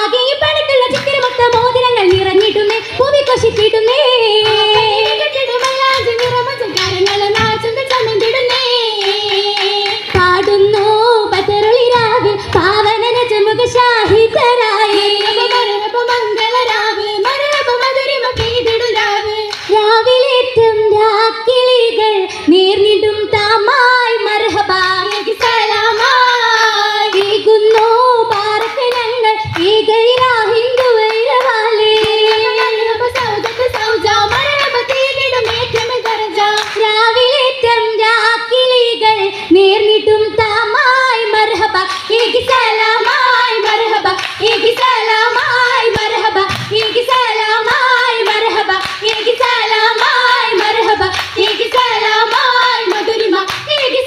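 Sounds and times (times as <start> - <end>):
girls singing: 0.0 - 54.0
hand claps: 0.8 - 19.9, 24.4 - 37.4, 41.4 - 54.0.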